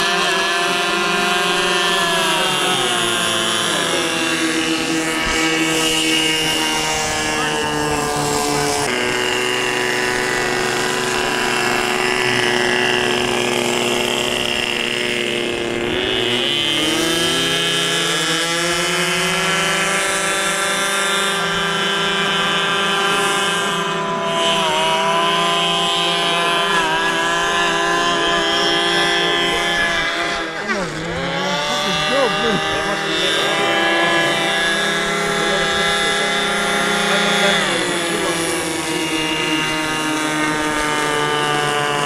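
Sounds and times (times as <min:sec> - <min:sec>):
model airboat engine running: 0:00.0 - 0:42.0.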